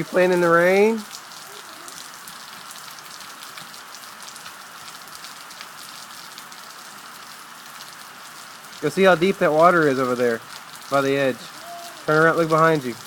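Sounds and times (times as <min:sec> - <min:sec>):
rain pattering on ground: 0:00.0 - 0:13.0.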